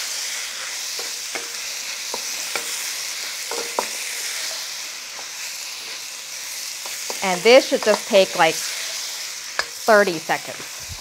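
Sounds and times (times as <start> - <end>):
food sizzling in a wok: 0.0 - 11.0
spatula tapping and scraping wok: 0.5 - 10.8.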